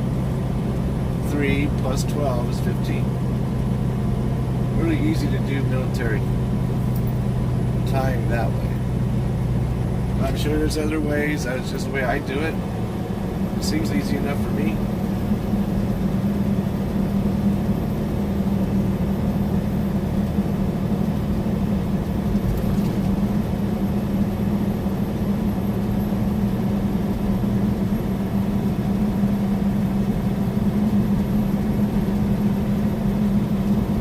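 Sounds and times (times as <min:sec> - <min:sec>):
diesel engine drone: 0:00.0 - 0:34.0
road noise: 0:00.0 - 0:34.0.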